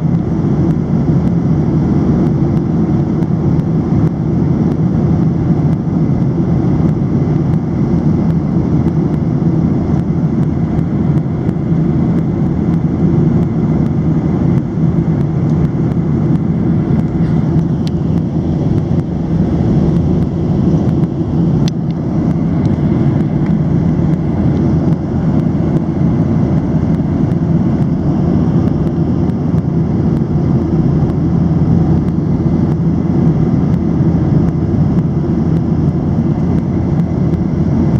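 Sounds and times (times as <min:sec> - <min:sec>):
airplane cabin engine noise: 0:00.0 - 0:37.9.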